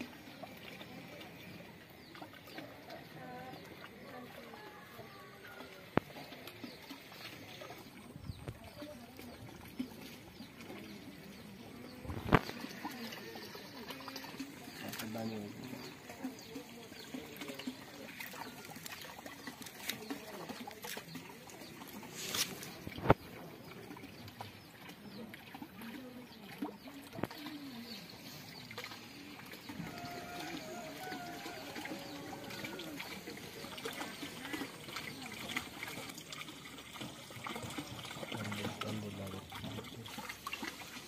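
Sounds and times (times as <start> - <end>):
fish slurping splashes: 0.0 - 41.0
water trickling: 0.0 - 41.0.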